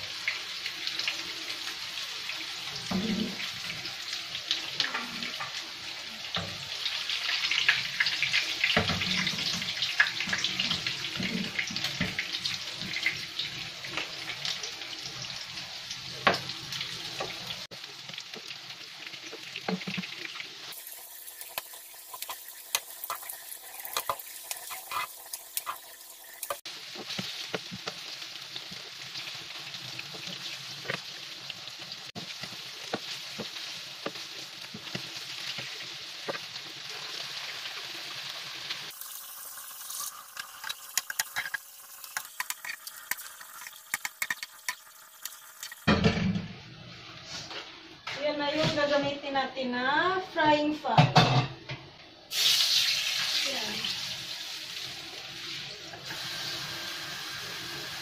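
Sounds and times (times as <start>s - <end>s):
meatballs sizzling in oil: 0.0s - 48.0s, 52.3s - 58.0s.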